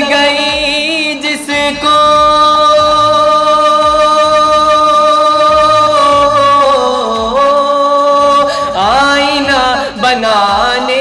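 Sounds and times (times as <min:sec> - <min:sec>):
boy singing through a microphone: 0:00.0 - 0:11.0.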